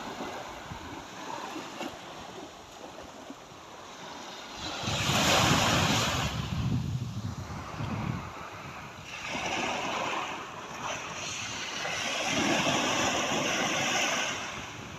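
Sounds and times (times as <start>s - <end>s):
sea waves washing: 0.0s - 14.9s
wind rumbling on microphone: 0.0s - 14.9s.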